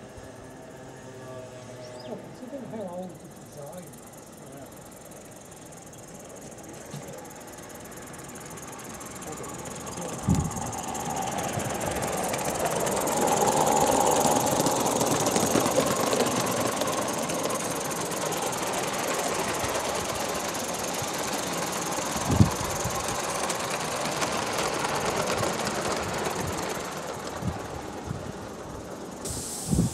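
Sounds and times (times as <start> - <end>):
small wheels clattering on rails: 4.8 - 29.3
steam locomotive exhaust beats: 5.3 - 29.9.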